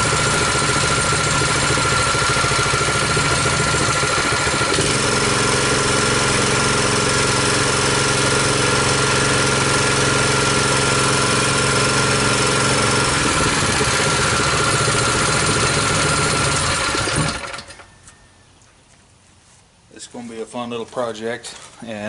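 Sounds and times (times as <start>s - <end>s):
small engine running: 0.0s - 17.9s.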